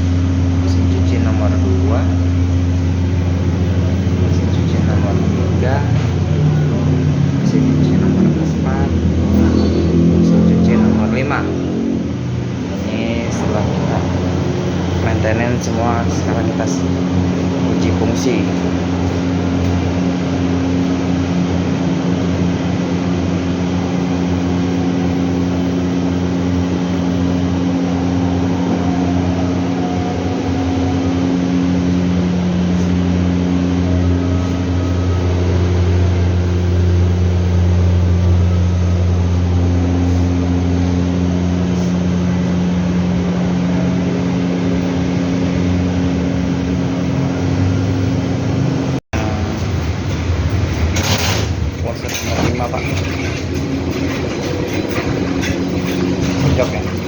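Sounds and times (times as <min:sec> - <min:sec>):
washing machines humming: 0:00.0 - 0:57.0.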